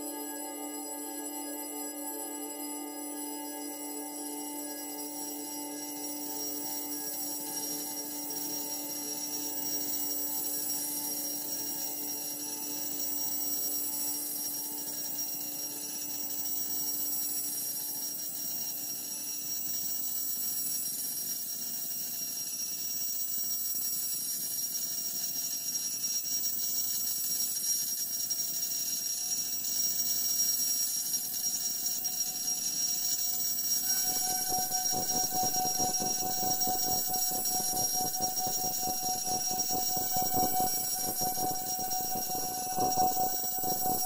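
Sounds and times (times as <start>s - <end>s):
steady high whistle: 0.0s - 44.0s
steady ringing tone: 0.0s - 44.0s.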